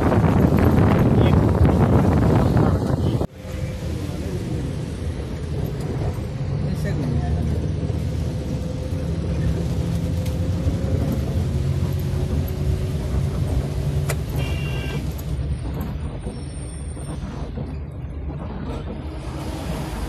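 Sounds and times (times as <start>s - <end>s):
car engine rumble: 0.0s - 20.0s
rain and wet tyres hissing: 0.0s - 20.0s.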